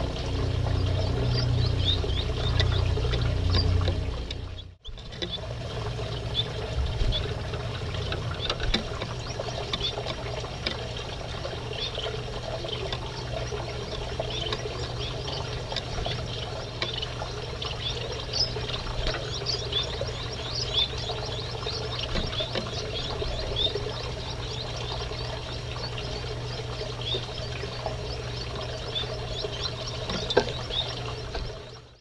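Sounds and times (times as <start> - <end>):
finches twittering: 0.0 - 32.0.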